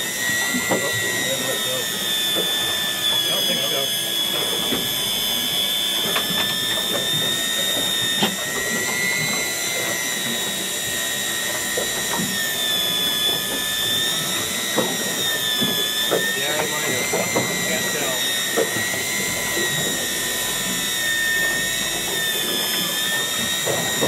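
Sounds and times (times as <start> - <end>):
electric fishing reel whine: 0.0 - 24.0.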